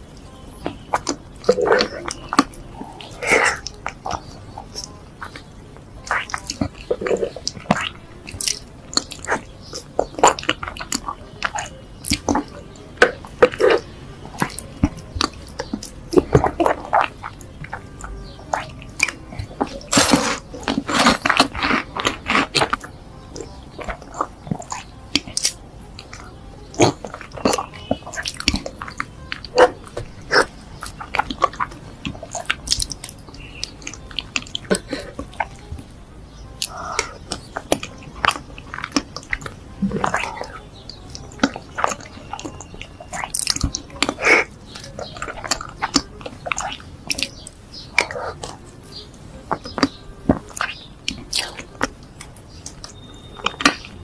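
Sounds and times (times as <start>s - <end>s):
sharp mouth clicks: 0.0s - 35.9s, 36.5s - 54.0s
chewing soft cake: 0.0s - 54.0s.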